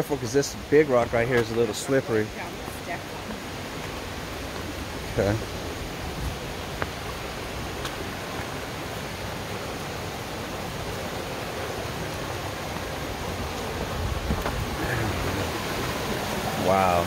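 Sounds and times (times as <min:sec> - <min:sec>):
creek water over rocks: 0:00.0 - 0:17.0.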